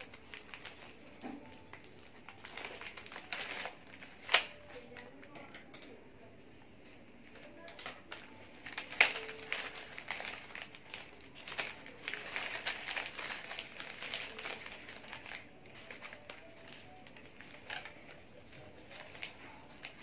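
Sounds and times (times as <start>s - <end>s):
wrapping paper crinkling: 0.0s - 5.9s, 7.3s - 20.0s.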